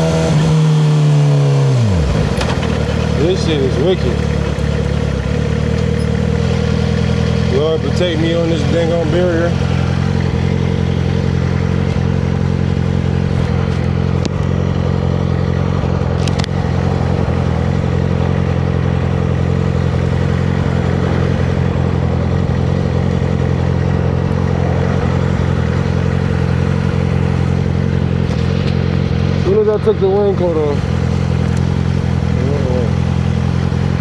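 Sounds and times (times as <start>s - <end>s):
motorcycle engine running steadily: 0.0s - 34.0s.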